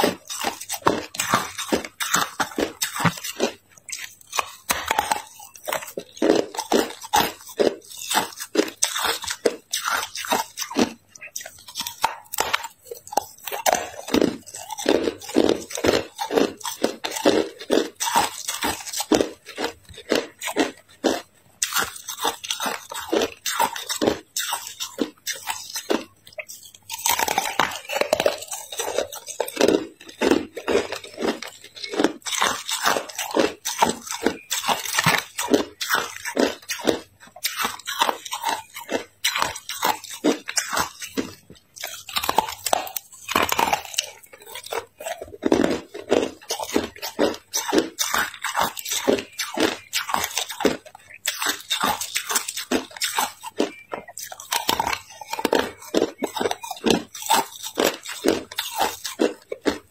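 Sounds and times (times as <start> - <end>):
ice being crunched and chewed: 0.0 - 59.9.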